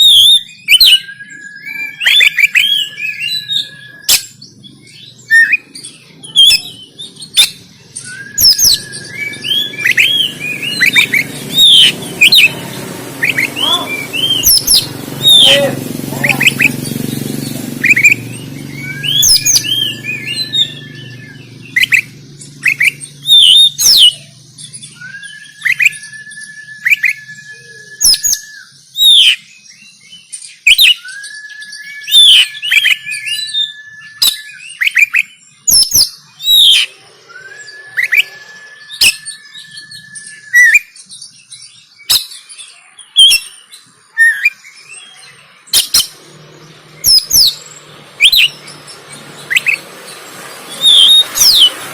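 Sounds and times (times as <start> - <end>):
long steady bird whistle: 0.0 - 16.8, 17.8 - 46.1, 46.9 - 49.8, 50.5 - 51.9
bird singing sharp chirps: 0.0 - 51.9.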